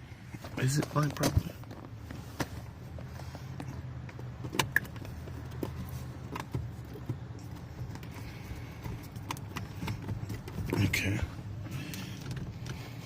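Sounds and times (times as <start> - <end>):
steady low hum: 0.0 - 13.0
light clicks and knocks of parts: 0.3 - 13.0.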